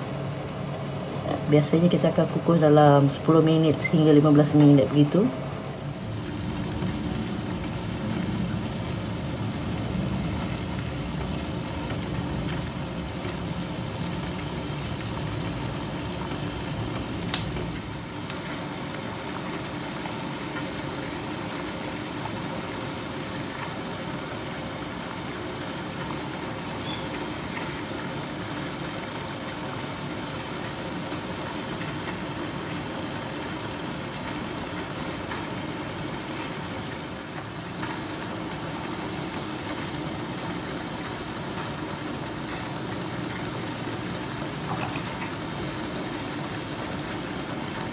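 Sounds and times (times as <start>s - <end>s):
boiling water rushing and humming: 0.0s - 47.9s.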